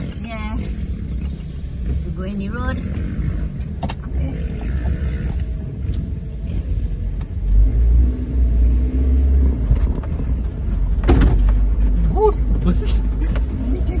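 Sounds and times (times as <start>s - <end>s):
car engine driving: 0.0s - 14.0s
road rumble: 0.0s - 14.0s.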